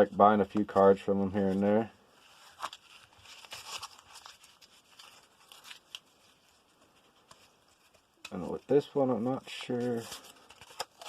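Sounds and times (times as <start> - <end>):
paper envelope rustling and tearing: 0.5 - 11.0.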